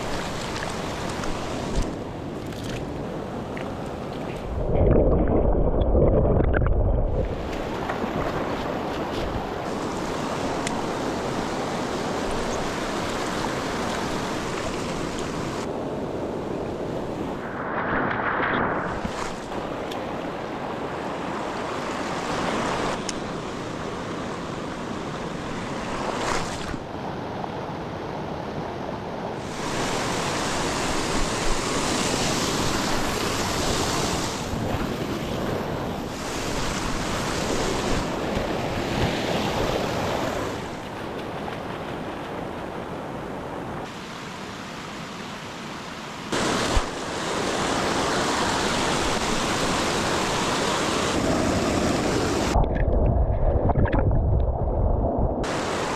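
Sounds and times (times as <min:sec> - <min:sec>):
mountain stream rushing: 0:00.0 - 0:27.4, 0:28.9 - 0:34.9, 0:35.6 - 0:52.7, 0:55.4 - 0:55.9.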